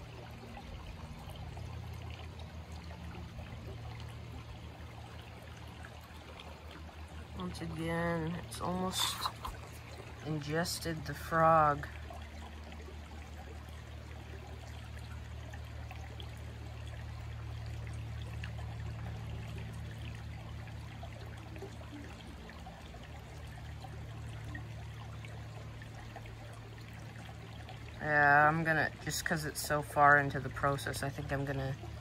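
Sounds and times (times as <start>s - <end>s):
creek water trickling over stones: 0.0s - 32.0s.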